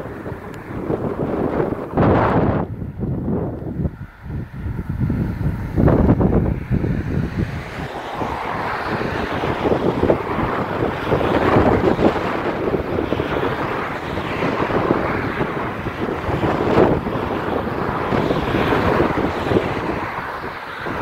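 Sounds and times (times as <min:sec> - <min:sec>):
diesel locomotive engines running: 0:00.0 - 0:21.0
wind on microphone: 0:00.0 - 0:21.0.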